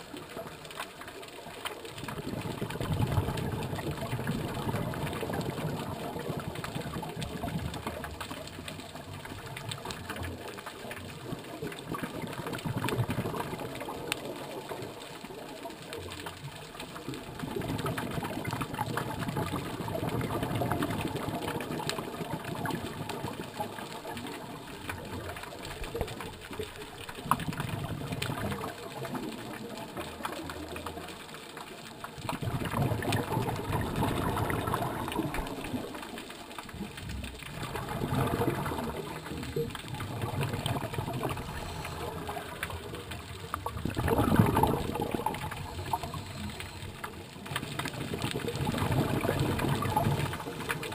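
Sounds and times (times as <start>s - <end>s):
scuba regulator exhaled bubbles: 2.0s - 15.0s, 16.9s - 31.1s, 32.1s - 50.9s.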